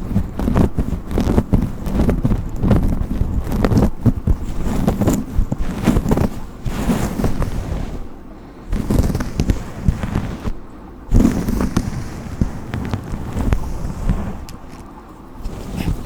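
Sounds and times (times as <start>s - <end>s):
brush scratching through hair: 0.0s - 16.0s.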